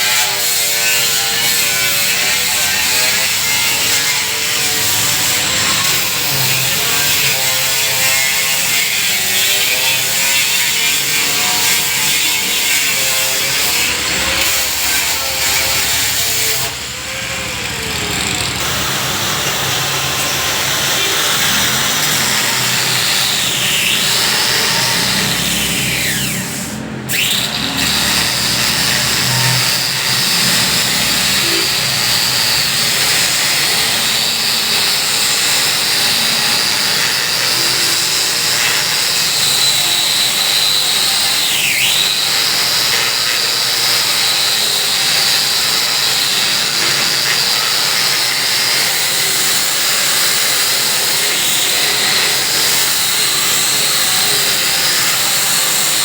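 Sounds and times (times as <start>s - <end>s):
power tool whining through wood: 0.0s - 56.0s.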